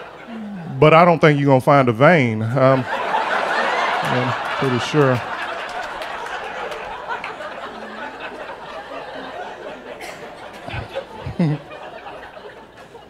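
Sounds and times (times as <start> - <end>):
audience laughing: 0.0 - 1.1, 2.4 - 13.0.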